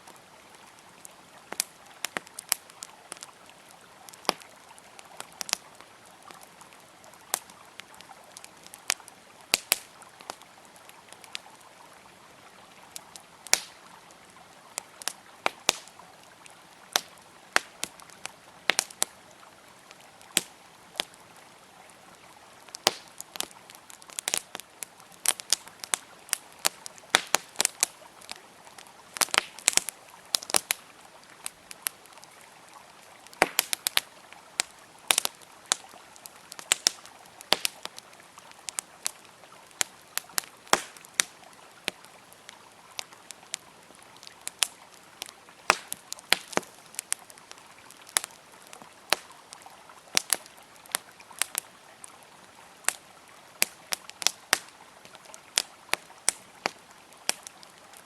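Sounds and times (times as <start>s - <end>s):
campfire crackling and popping: 0.0s - 58.0s
river water flowing: 0.0s - 58.0s.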